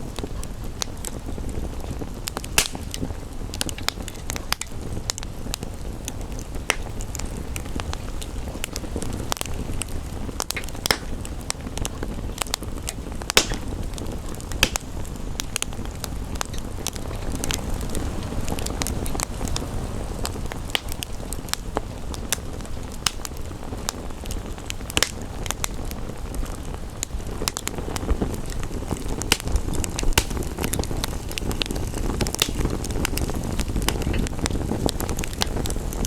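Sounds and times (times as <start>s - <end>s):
rain hissing: 0.0s - 36.0s
wood fire crackling and popping: 0.0s - 36.0s.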